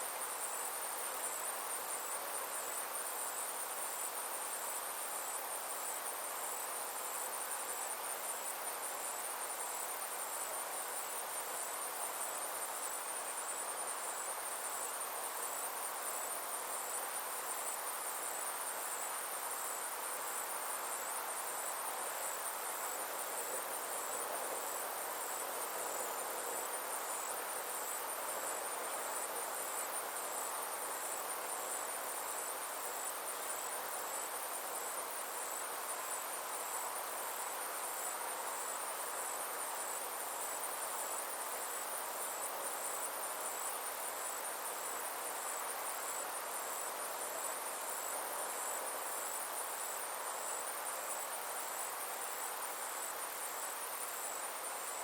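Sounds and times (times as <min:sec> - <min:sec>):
insects trilling: 0:00.0 - 0:55.0
soft even hiss: 0:00.0 - 0:55.0.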